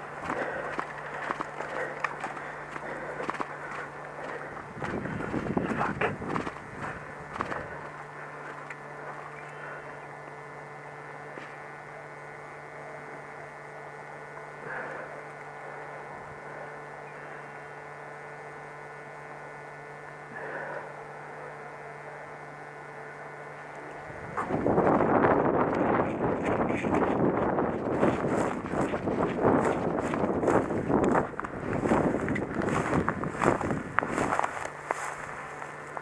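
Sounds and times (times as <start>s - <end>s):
electrical hum with hiss: 0.0s - 36.0s.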